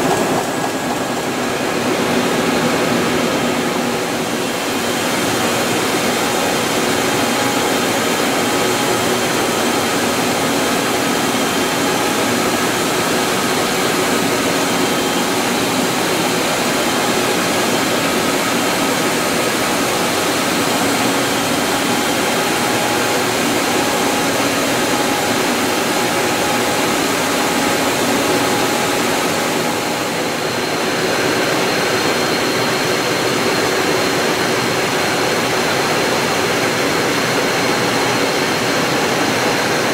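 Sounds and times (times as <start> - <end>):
printing press mechanical rush: 0.0 - 39.9.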